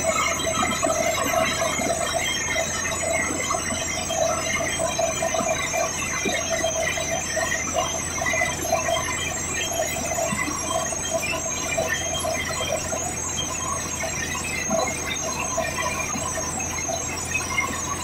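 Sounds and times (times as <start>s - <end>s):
high-pitched whine: 0.0s - 18.0s.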